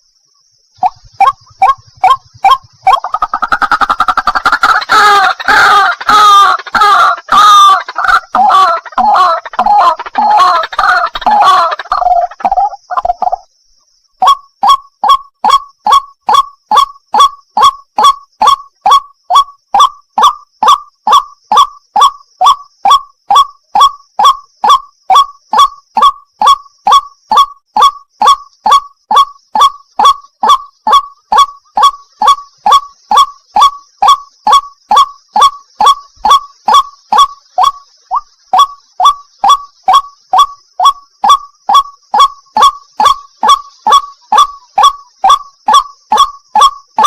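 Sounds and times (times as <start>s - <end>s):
bird harsh repeated calls: 0.7s - 47.0s.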